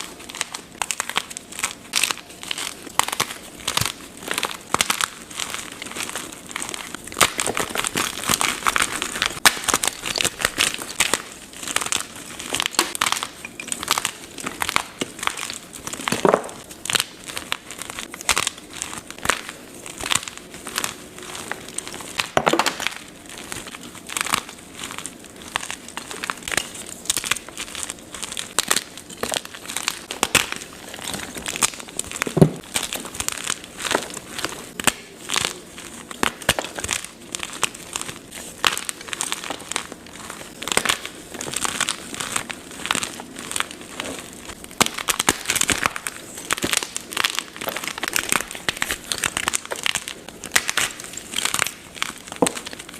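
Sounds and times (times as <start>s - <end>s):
chalk crunching and crackling: 0.0s - 52.9s.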